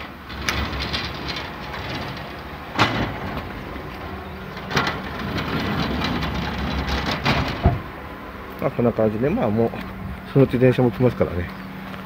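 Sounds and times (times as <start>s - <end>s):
diesel railcar idling: 0.0s - 12.0s.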